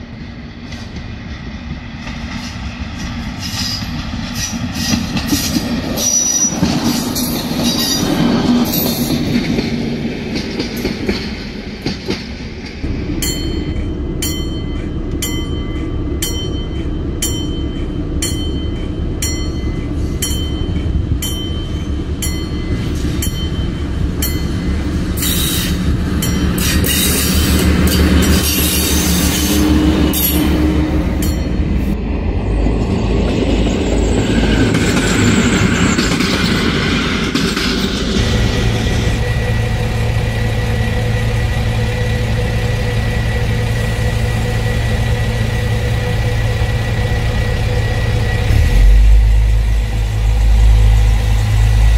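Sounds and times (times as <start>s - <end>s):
diesel railcar engine: 0.0s - 51.9s
wheel noise and squeal: 2.3s - 9.6s, 13.2s - 51.9s.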